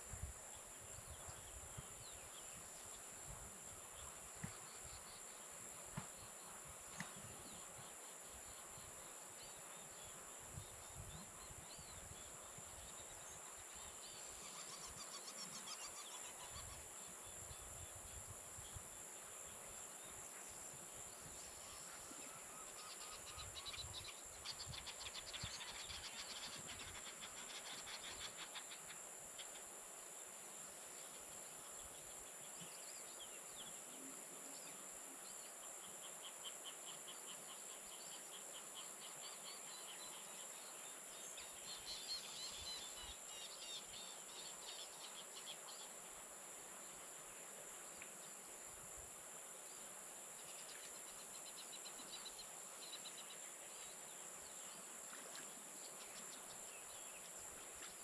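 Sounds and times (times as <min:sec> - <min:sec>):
rapid pulsing insect trills: 0:00.0 - 0:58.0.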